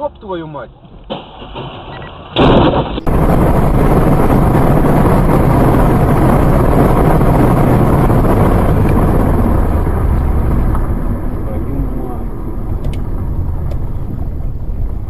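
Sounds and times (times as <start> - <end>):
wind and road noise in vehicle: 0.0 - 15.0
loud burst: 1.1 - 14.9.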